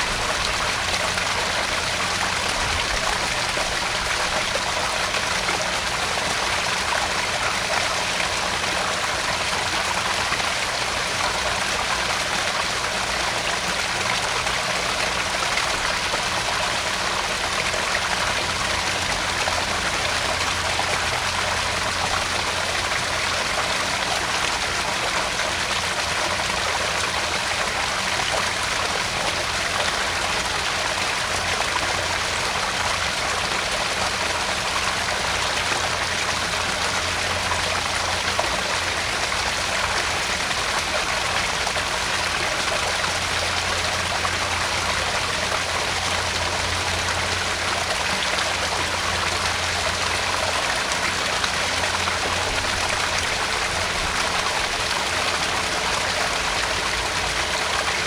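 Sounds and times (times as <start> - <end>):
waterfall splashing into pond: 0.0 - 58.0.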